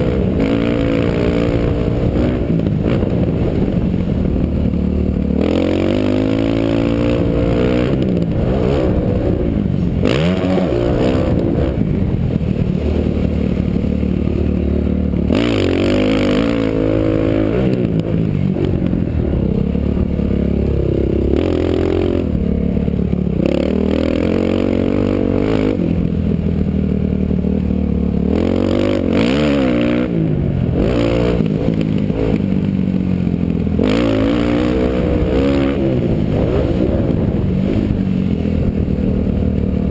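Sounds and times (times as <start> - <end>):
wind rushing over microphone: 0.0 - 26.6, 29.1 - 39.9
dirt bike engine revving: 0.0 - 39.9.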